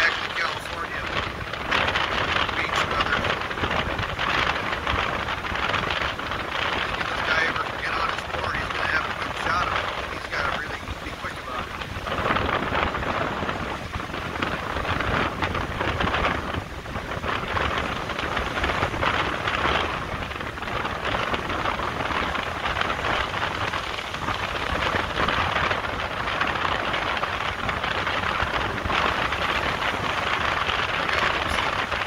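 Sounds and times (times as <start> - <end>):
small waves breaking on sand: 0.0 - 32.0
wind on microphone: 0.0 - 32.0.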